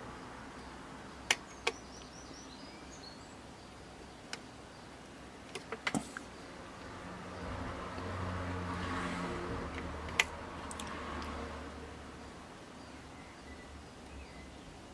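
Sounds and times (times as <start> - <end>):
low steady hiss: 0.0 - 14.9.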